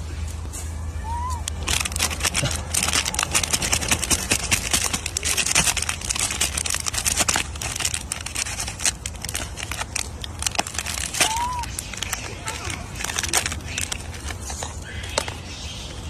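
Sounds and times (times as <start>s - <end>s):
plastic wrapper crinkling: 1.4s - 16.0s.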